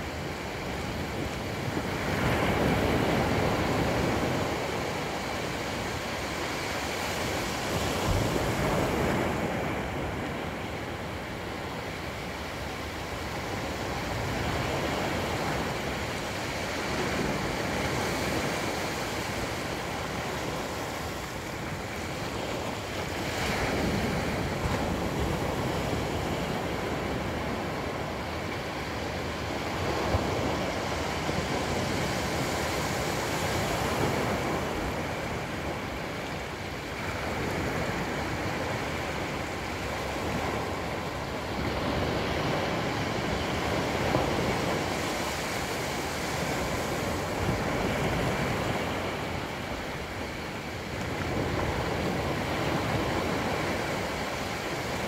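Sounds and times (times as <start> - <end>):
waves washing up a beach: 0.0 - 55.0.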